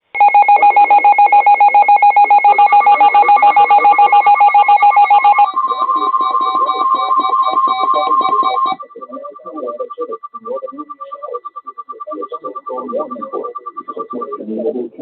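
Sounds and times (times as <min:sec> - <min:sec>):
shrill electronic alert tone: 0:00.2 - 0:14.3.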